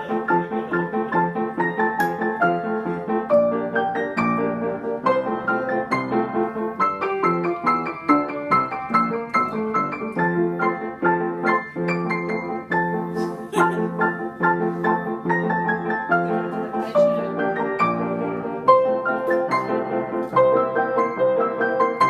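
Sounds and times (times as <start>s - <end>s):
piano playing: 0.0s - 22.0s.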